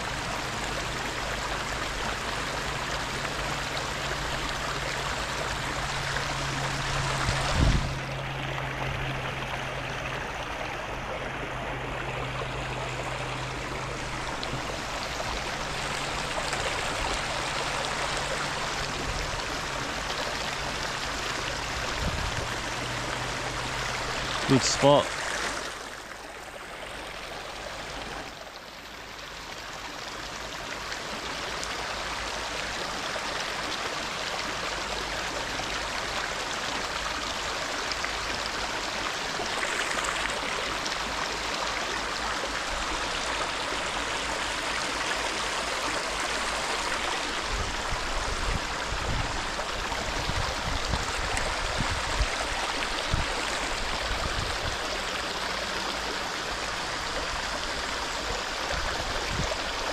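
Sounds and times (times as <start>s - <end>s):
river water over stones: 0.0s - 59.9s.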